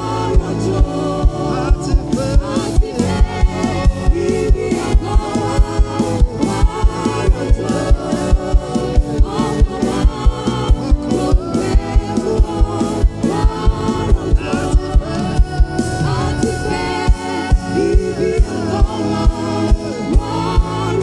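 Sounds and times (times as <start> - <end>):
band playing: 0.0 - 21.0
choir singing: 0.0 - 21.0
steady drum beat: 0.0 - 21.0.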